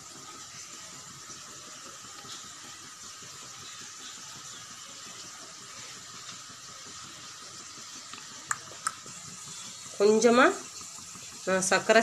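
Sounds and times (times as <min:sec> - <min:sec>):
gas burner hissing: 0:00.0 - 0:12.0.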